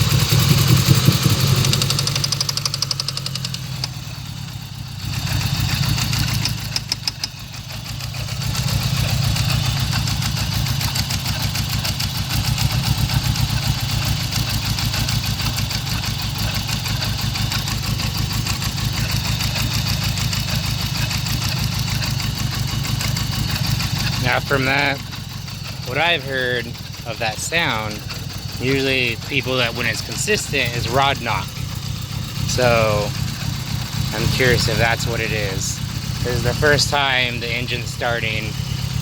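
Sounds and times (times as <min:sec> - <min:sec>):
engine idling with rapid knock: 0:00.0 - 0:39.0.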